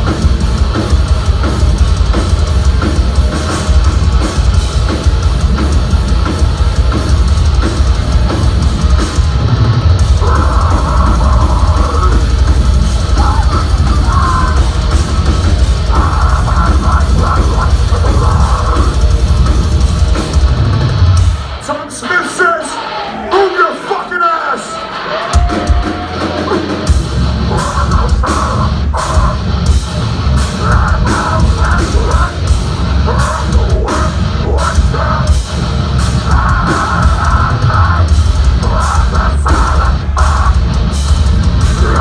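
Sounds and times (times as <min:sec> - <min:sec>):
pounding drums: 0:00.0 - 0:23.9, 0:24.8 - 0:42.0
distorted guitars and bass: 0:00.0 - 0:42.0.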